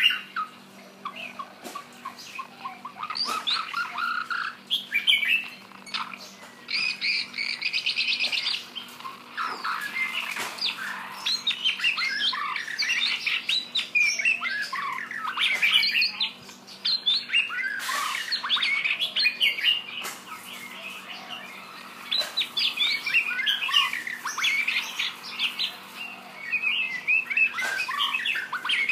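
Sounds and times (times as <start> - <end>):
bird singing with whistles and trills: 0.0 - 28.9.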